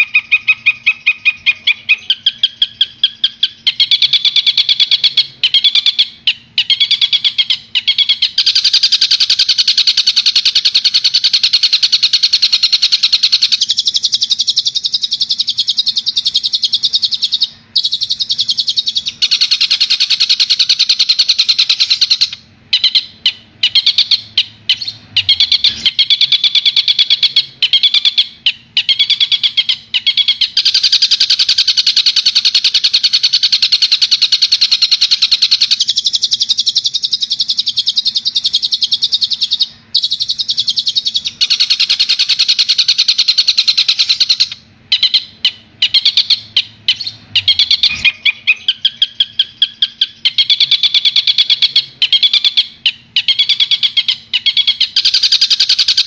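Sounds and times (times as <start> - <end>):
bird singing high chattering notes: 0.0 - 56.0.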